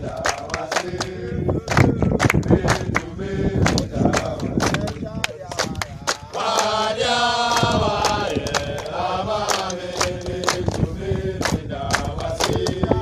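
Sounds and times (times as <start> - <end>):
hands clapping in time: 0.0 - 6.8, 7.5 - 13.0
men singing together: 0.0 - 13.0.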